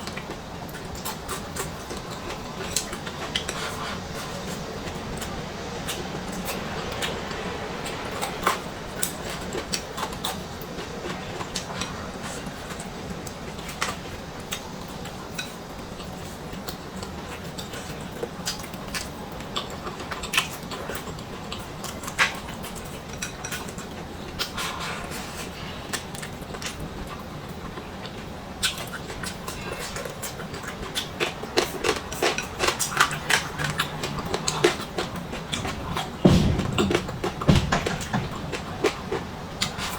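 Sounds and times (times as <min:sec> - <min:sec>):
low background hum: 0:00.0 - 0:39.9.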